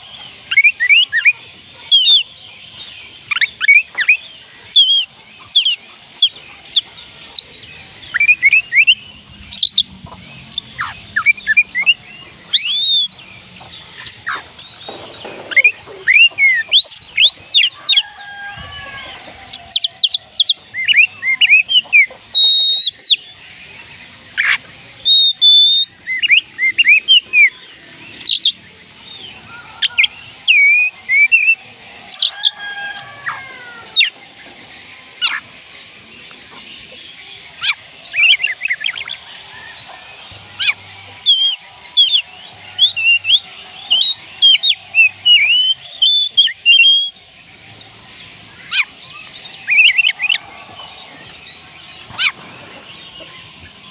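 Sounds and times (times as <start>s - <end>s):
bird whistled song: 0.0s - 34.6s, 35.2s - 53.9s.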